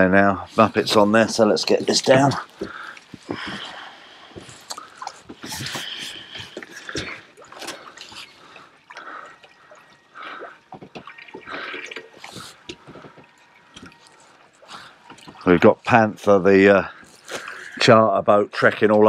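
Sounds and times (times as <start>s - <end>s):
water lapping against boat hull: 0.6s - 19.0s.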